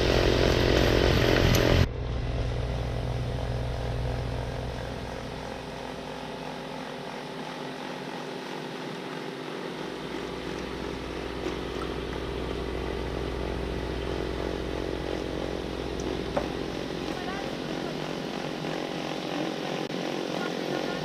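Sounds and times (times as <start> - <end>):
snowblower engine rumbling: 0.0 - 21.0.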